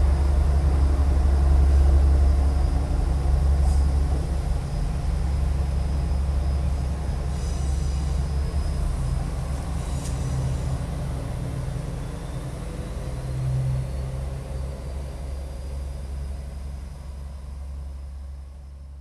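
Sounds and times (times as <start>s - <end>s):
diesel railcar engine rumble: 0.0s - 19.0s.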